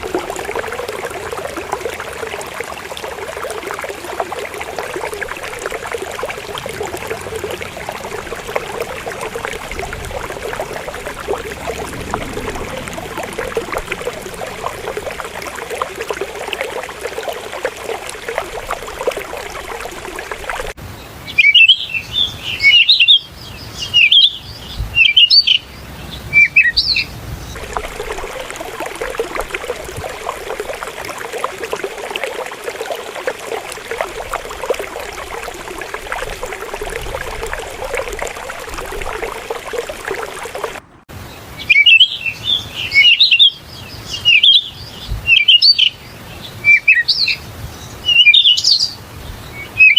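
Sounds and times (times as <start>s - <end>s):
river water running: 0.0s - 49.9s.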